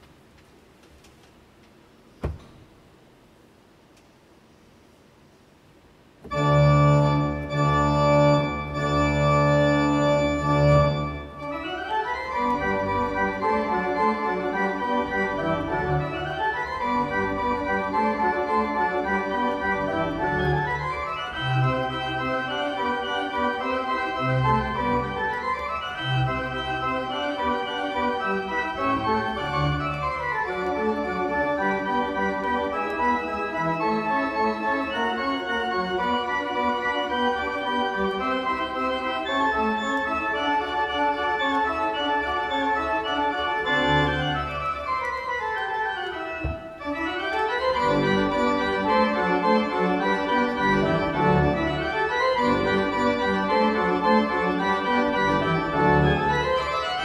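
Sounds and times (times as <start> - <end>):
pipe organ playing: 6.3 - 57.0.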